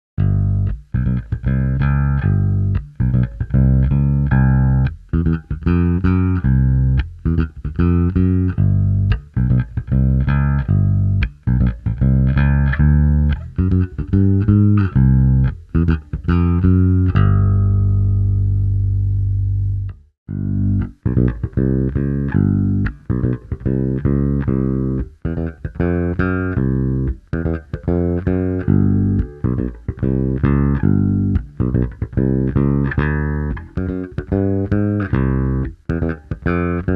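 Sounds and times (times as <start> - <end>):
electric bass plucked notes: 0.2 - 36.9.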